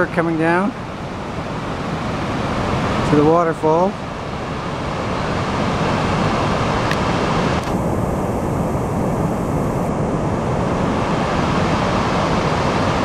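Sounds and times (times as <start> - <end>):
river rushing over waterfall: 0.3 - 13.0.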